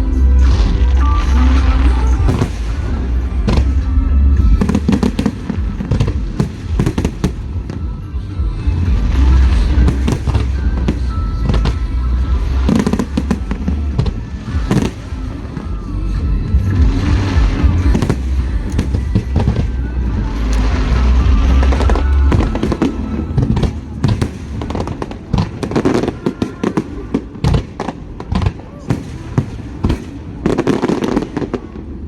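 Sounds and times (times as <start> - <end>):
deep continuous rumble: 0.0 - 32.0
fireworks bangs and crackles: 0.0 - 32.0
music playing: 0.0 - 32.0.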